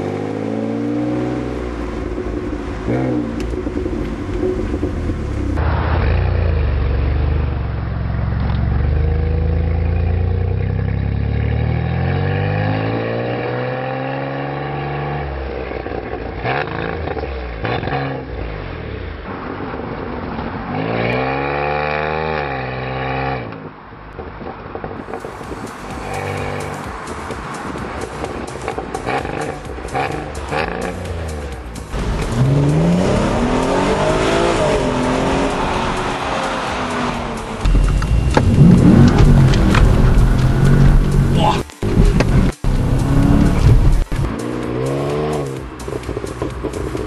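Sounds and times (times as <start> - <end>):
car engine revving: 0.0 - 23.6, 25.0 - 47.0.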